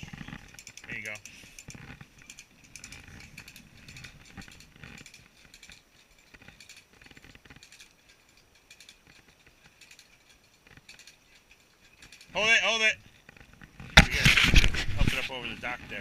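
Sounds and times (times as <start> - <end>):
faint clicking and rattling: 0.0 - 16.0.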